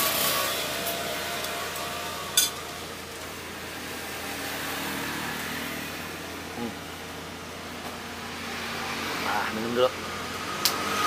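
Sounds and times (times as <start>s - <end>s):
road noise hum: 0.0s - 11.0s
vehicle engine passing: 0.0s - 11.0s.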